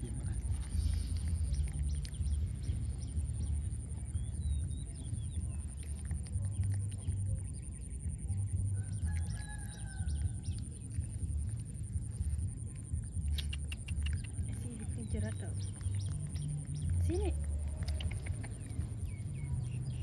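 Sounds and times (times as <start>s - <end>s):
birds chirping: 0.0s - 20.0s
wind rumble on microphone: 0.0s - 20.0s.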